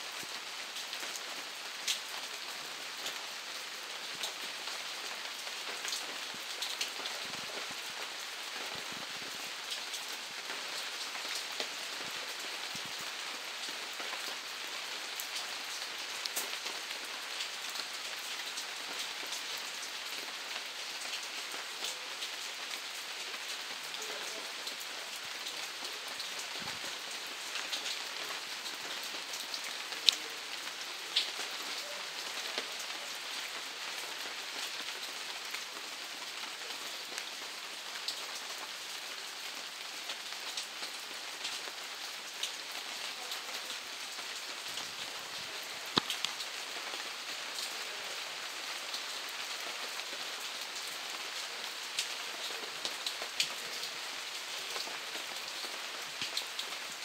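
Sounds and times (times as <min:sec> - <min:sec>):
steady rain hiss: 0:00.0 - 0:57.0
raindrops ticking close by: 0:00.1 - 0:57.0.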